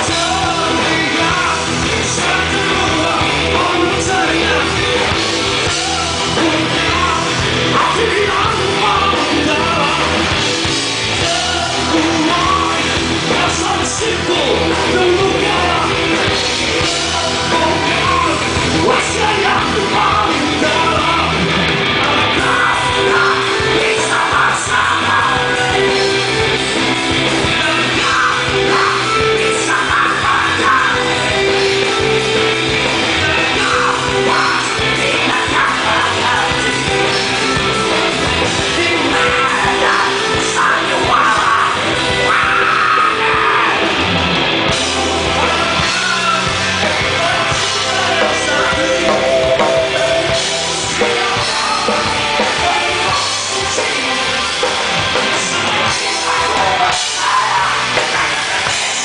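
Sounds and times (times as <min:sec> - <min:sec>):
person singing: 0:00.0 - 0:44.0, 0:44.7 - 0:59.0
live rock band: 0:00.0 - 0:59.0.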